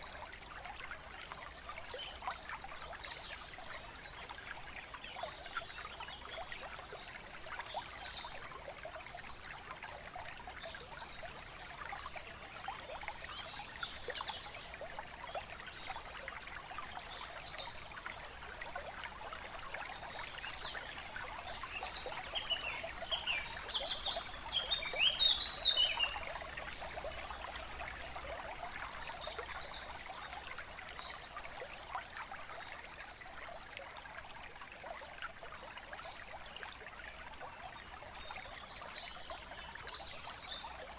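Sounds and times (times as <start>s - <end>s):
trickling stream: 0.0s - 40.9s.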